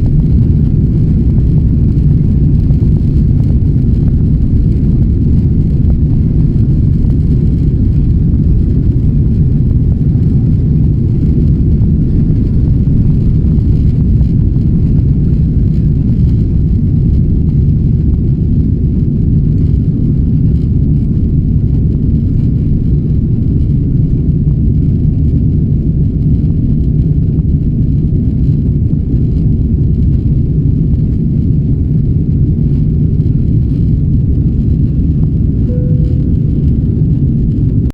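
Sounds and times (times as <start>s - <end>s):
airplane engines rumbling in cabin: 0.0s - 37.9s.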